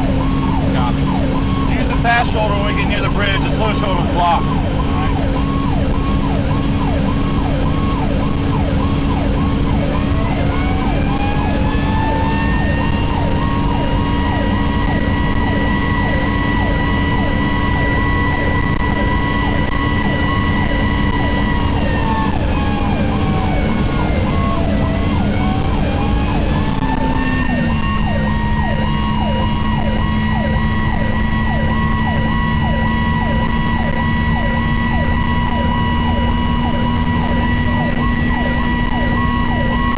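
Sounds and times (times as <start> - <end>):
electronic siren cycling rapidly: 0.0 - 39.9
road noise: 0.0 - 39.9
slower winding siren: 0.0 - 39.9
truck engine: 0.0 - 39.9.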